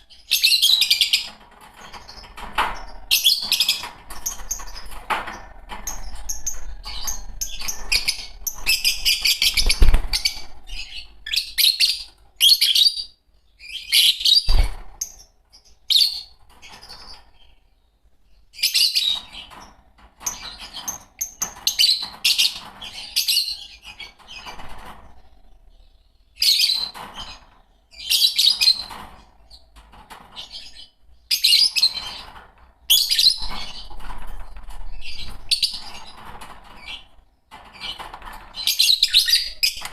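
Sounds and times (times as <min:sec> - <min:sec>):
lovebirds chirping: 0:00.0 - 0:29.8, 0:30.4 - 0:39.9.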